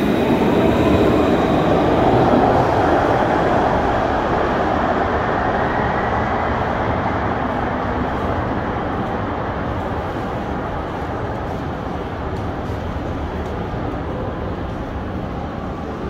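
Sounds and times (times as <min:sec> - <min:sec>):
tram wheels on rails: 0:00.0 - 0:16.0.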